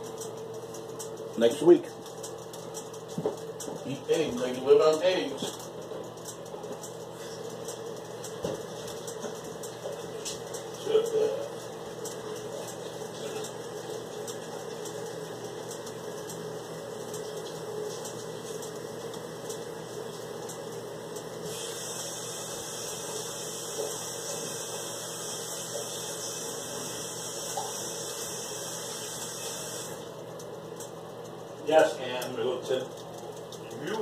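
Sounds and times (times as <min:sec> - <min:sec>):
ham sizzling on a grill: 0:00.0 - 0:34.0.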